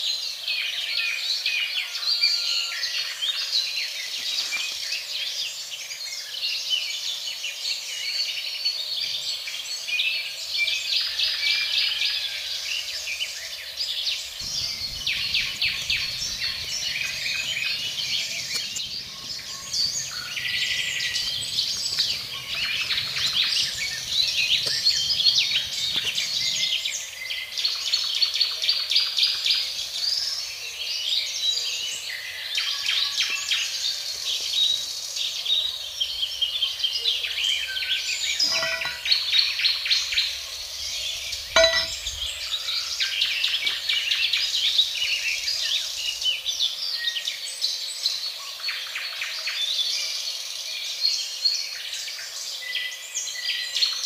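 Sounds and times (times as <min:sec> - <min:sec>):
wild birds chirping and singing: 0:00.0 - 0:54.0.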